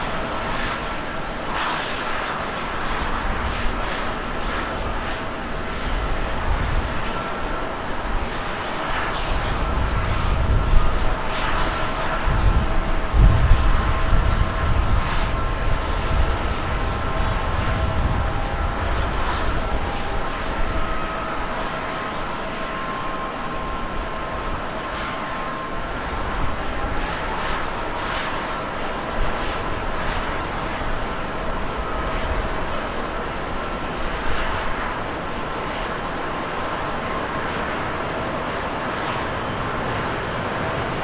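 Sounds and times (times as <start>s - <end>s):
jet engines running: 0.0s - 41.0s.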